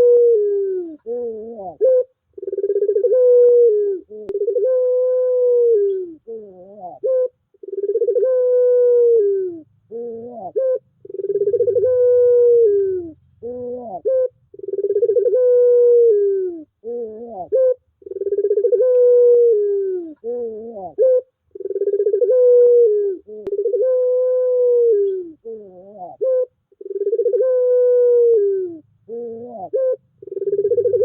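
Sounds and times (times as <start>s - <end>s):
turtle-dove cooing: 0.0s - 31.0s.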